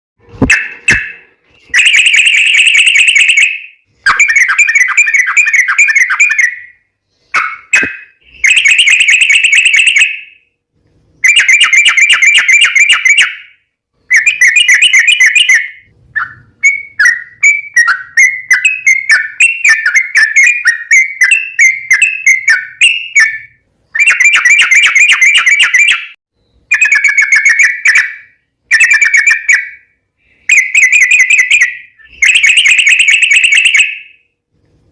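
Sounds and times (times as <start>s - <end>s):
bird singing warbling phrases: 0.4s - 10.4s, 11.2s - 34.2s.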